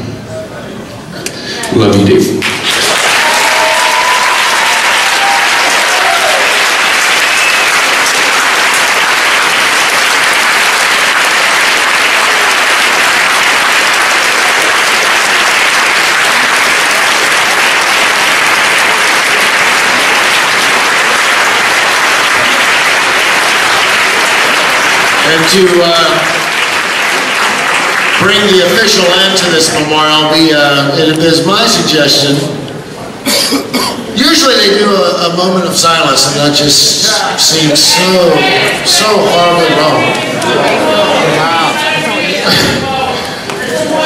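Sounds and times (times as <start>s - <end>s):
large audience applauding: 2.3s - 30.5s, 36.9s - 44.0s.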